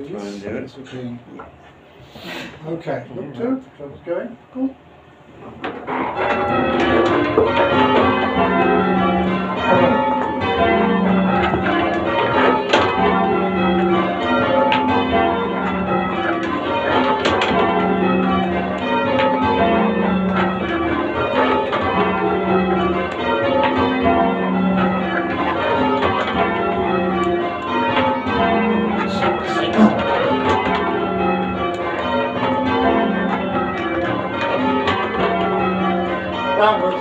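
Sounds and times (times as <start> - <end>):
church bells ringing: 5.9 - 37.0.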